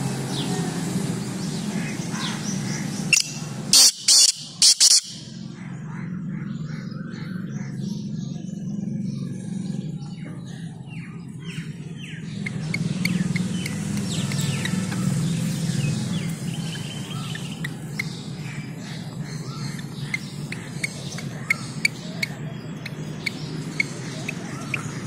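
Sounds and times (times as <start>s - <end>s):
birds chirping: 0.0s - 25.0s
steady low hum: 0.0s - 25.0s.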